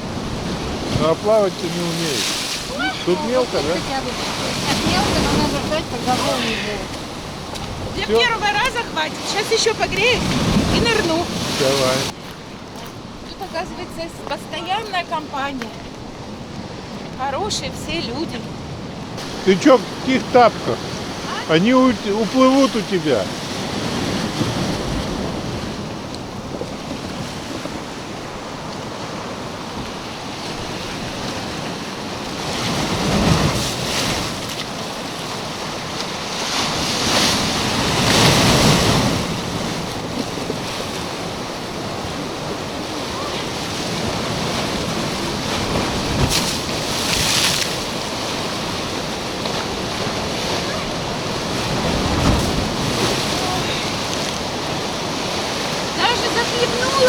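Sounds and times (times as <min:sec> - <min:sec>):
surf washing on shore: 0:00.0 - 0:57.0
wind buffeting microphone: 0:00.0 - 0:57.0.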